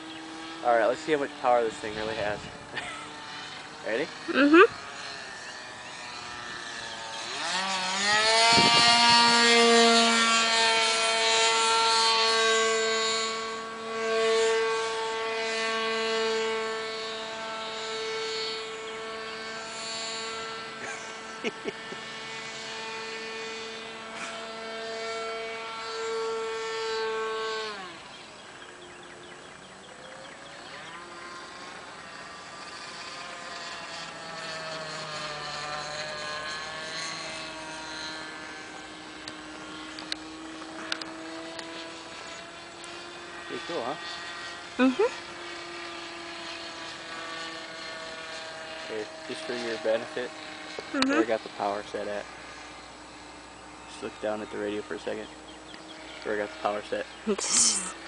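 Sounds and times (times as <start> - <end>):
model plane engine whine: 0.0 - 58.0.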